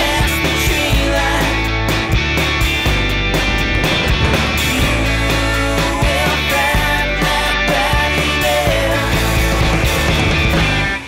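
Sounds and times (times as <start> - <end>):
rock music with drums and bass: 0.0 - 11.0.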